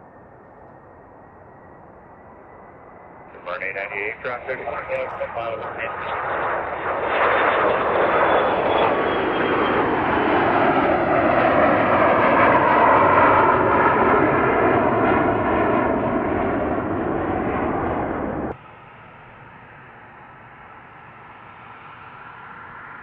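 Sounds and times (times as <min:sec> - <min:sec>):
aircraft engine passing: 0:00.0 - 0:23.0.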